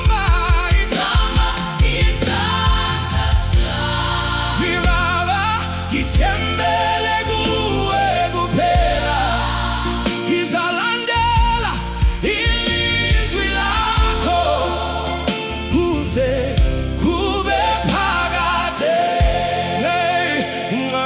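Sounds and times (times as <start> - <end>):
band with deep bass: 0.0 - 21.0
gospel singing: 0.0 - 21.0.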